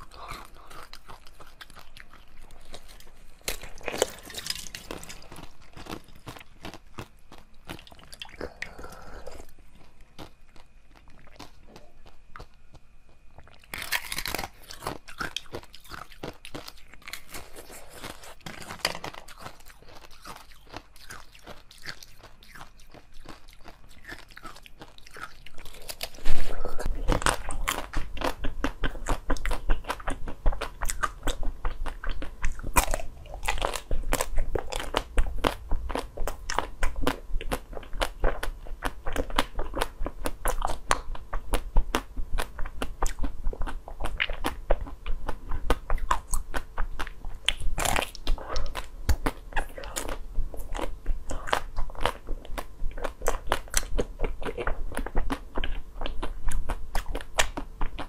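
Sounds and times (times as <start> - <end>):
crunchy bites of frozen ice cream: 0.0 - 58.0
rapid small crunches: 0.0 - 58.0
wet chewing of soft jelly: 0.0 - 58.0.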